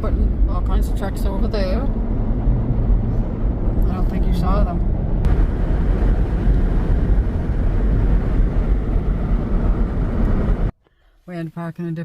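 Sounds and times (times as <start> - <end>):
vehicle low rumble: 0.0 - 10.8.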